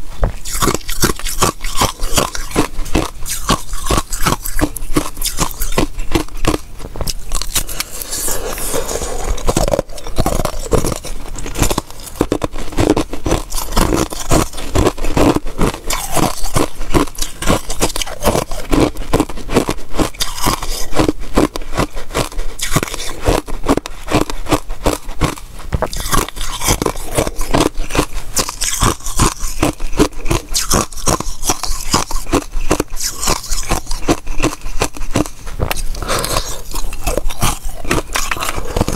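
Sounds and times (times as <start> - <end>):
ice cubes crunching when chewed: 0.4 - 38.9.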